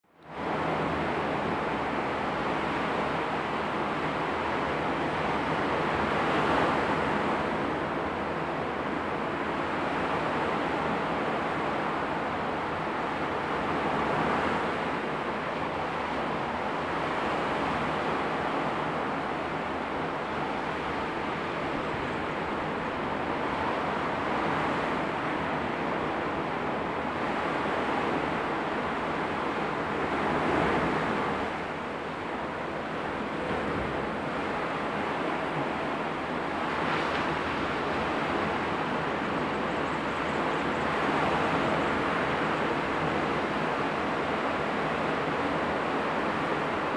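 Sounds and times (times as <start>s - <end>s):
ocean surf: 0.3s - 46.9s.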